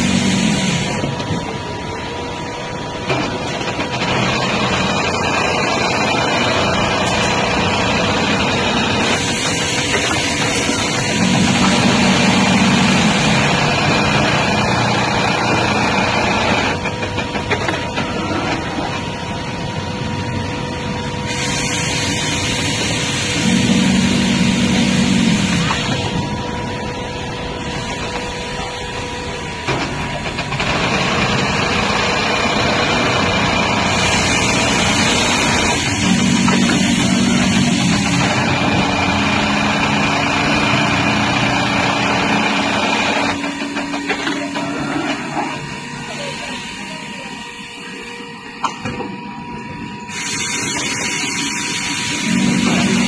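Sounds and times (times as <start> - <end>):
sewing machine and factory machinery: 0.0 - 49.2, 50.0 - 53.0
steady hum: 0.0 - 53.0.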